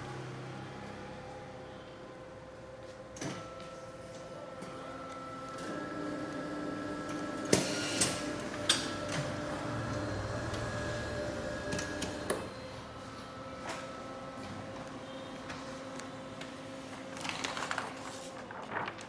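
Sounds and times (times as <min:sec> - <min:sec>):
copier mechanical hum: 0:00.0 - 0:19.0.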